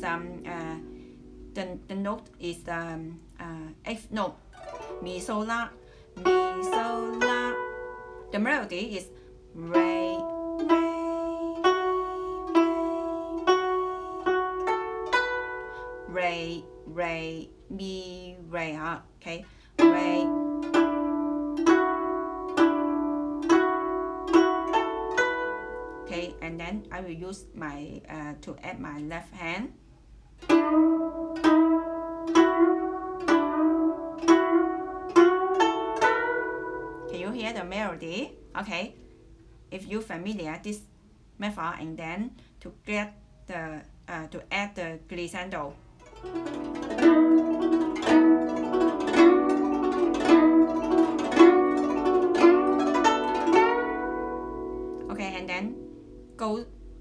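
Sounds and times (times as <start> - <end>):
guzheng plucked notes: 0.0 - 29.6, 30.4 - 40.7, 45.2 - 57.0.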